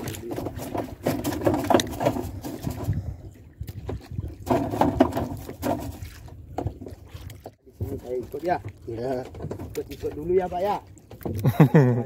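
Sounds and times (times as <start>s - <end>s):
wind and sea noise: 0.0s - 12.0s.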